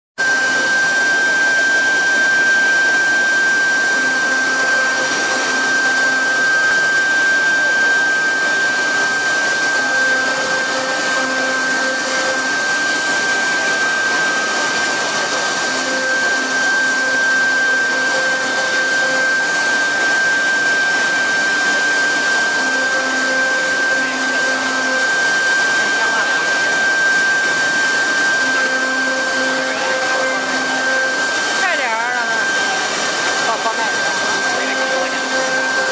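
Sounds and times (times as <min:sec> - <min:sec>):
high-pitched router whine: 0:00.2 - 0:35.9
low machine hum: 0:00.2 - 0:35.9.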